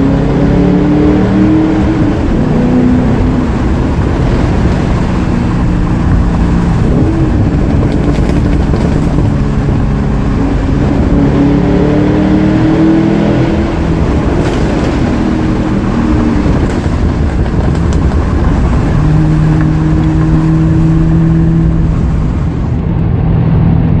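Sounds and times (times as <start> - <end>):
car exhaust note accelerating: 0.0 - 24.0.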